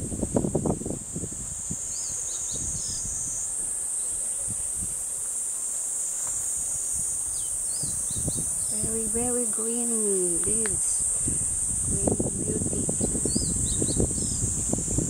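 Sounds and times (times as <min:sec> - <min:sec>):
high-pitched insect drone: 0:00.6 - 0:15.0.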